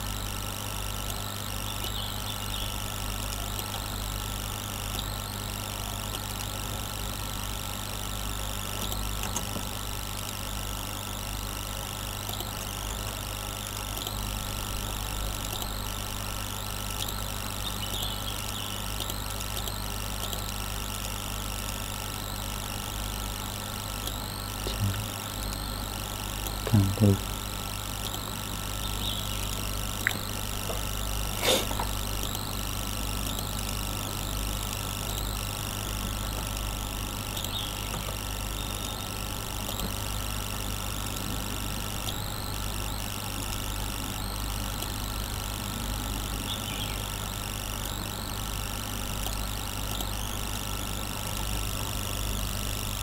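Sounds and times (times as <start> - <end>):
low electrical hum: 0.0 - 53.0
isolated clicks: 0.9 - 45.2, 46.4 - 51.5.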